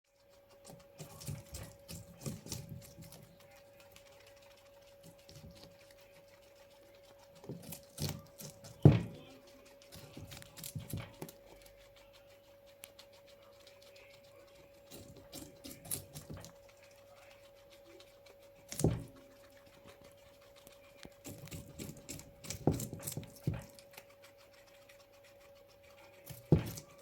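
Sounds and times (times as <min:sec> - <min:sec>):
guinea pigs crunching food: 0:00.0 - 0:27.0.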